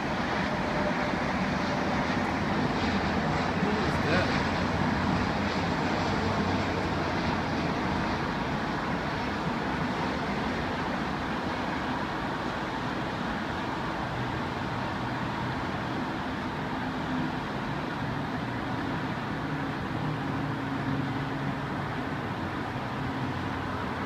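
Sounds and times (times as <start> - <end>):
jet airliner engines: 0.0 - 24.0
road traffic rumble: 0.0 - 24.0.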